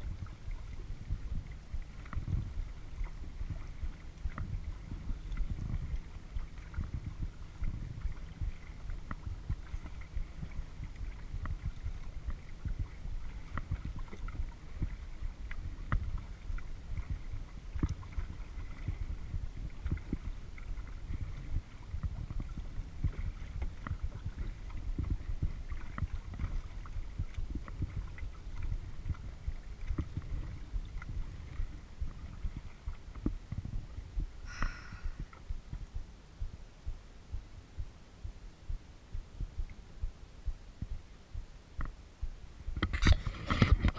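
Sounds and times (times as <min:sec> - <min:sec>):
steady low rumble: 0:00.0 - 0:43.9
water sloshing against hull: 0:00.0 - 0:43.9.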